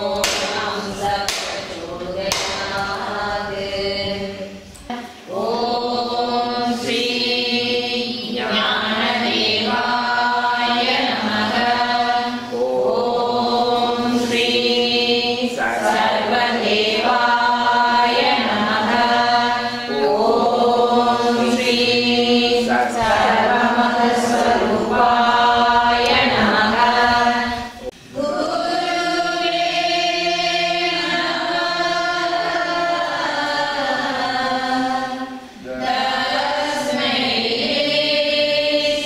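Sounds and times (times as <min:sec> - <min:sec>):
voices chanting: 0:00.0 - 0:39.0.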